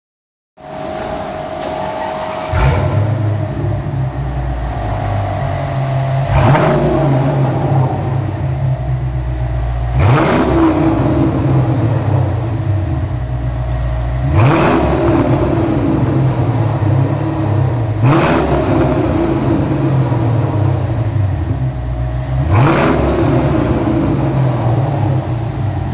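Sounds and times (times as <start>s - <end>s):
car engine idling and revving: 0.6s - 25.9s.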